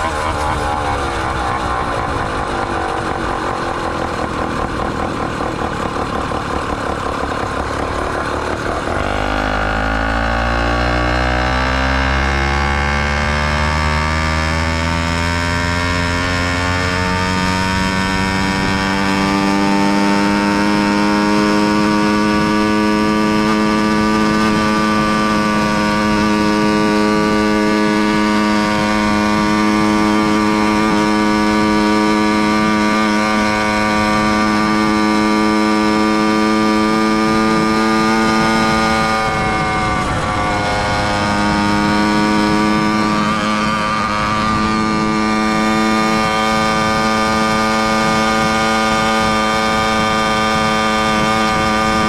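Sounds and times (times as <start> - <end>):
small engine buzzing: 0.0 - 52.0.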